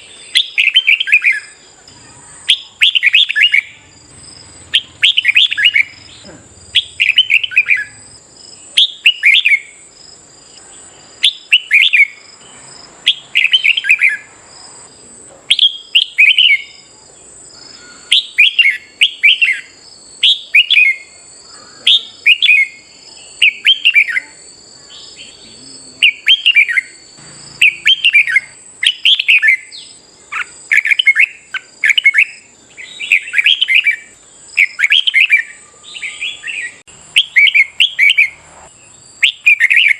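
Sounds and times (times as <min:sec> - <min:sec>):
bulbul singing: 0:00.0 - 0:39.9
steady high-pitched whine: 0:00.0 - 0:39.9.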